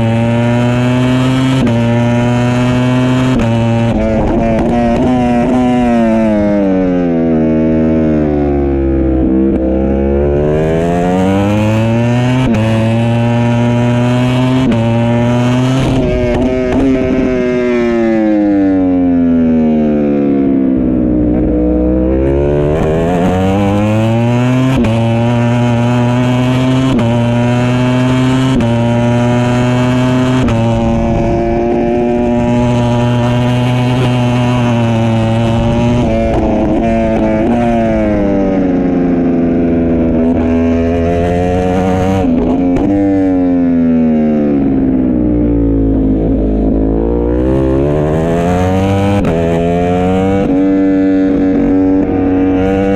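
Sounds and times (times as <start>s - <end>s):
motorcycle engine revving through upshifts: 0.0s - 52.9s.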